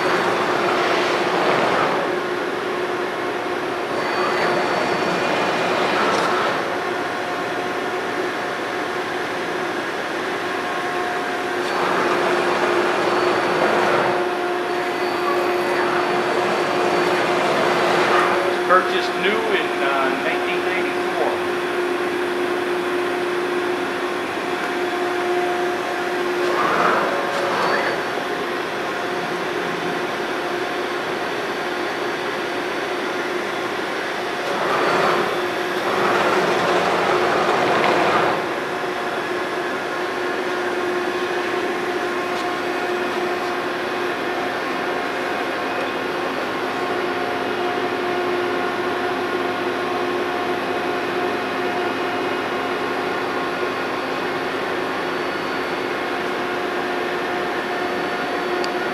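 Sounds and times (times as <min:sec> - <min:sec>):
machinery hum: 0:00.0 - 0:58.9.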